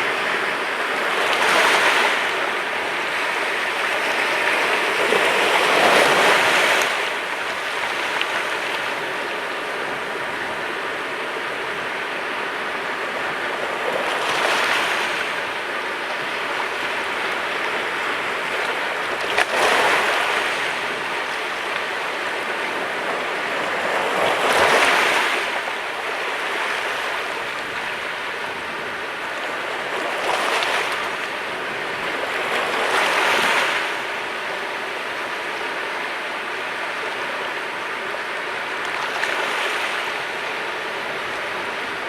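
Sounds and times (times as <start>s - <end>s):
sea waves breaking on shore: 0.0s - 42.0s.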